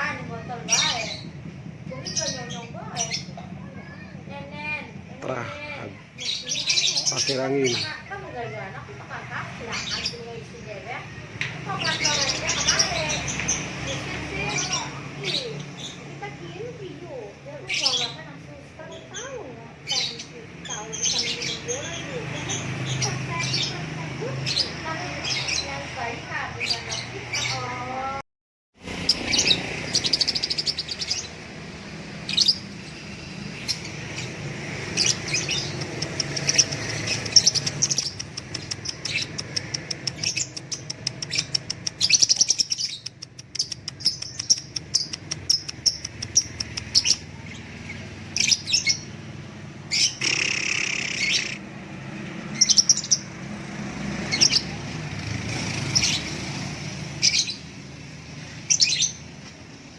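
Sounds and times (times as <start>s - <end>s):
songbirds chirping and trilling: 0.0s - 28.2s, 28.8s - 59.9s.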